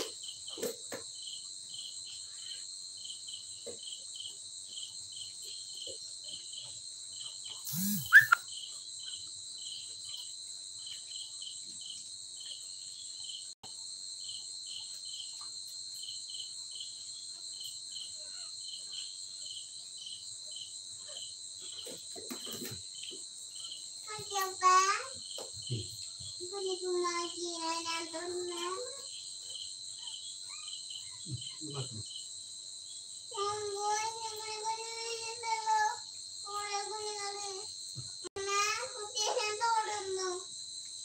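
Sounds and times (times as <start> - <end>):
cricket chirping: 0.0 - 41.0
insects droning: 0.0 - 41.0.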